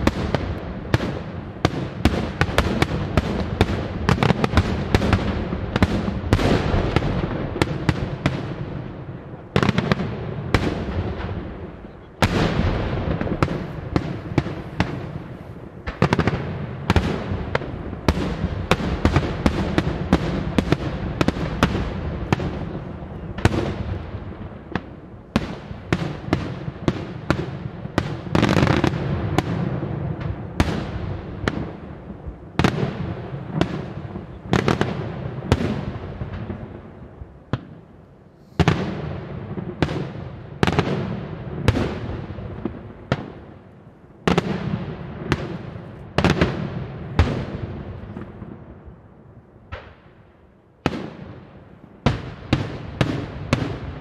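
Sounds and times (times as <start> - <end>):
fireworks bursts and bangs: 0.0 - 49.0, 50.8 - 54.0.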